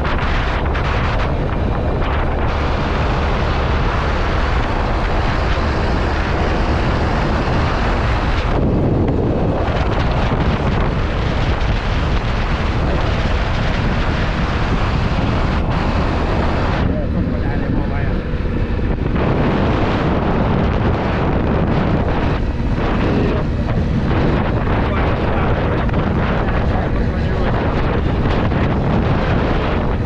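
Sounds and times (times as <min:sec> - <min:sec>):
moving vehicle rumble: 0:00.0 - 0:30.0
wind buffeting microphone: 0:00.0 - 0:30.0.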